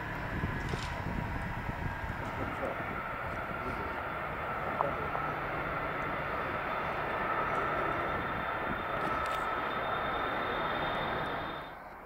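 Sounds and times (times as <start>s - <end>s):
jet engines roaring with fan whine: 0.0s - 12.0s.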